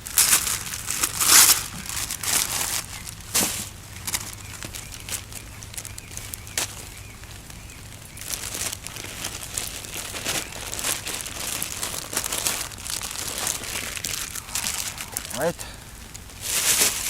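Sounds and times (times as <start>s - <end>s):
wrapping crinkling: 0.0s - 17.0s.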